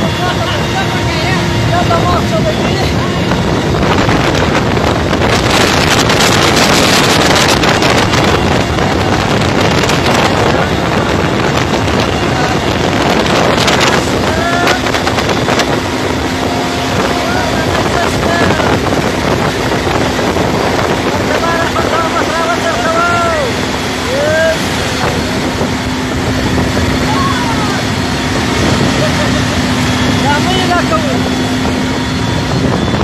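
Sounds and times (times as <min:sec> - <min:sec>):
helicopter engine and rotor din: 0:00.0 - 0:33.0
rushing wind: 0:00.0 - 0:33.0.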